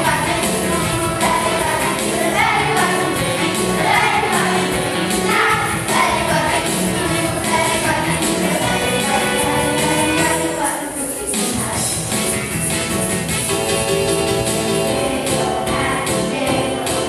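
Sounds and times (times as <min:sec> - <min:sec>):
children singing: 0:00.0 - 0:11.8, 0:14.6 - 0:17.0
musical accompaniment: 0:00.0 - 0:17.0.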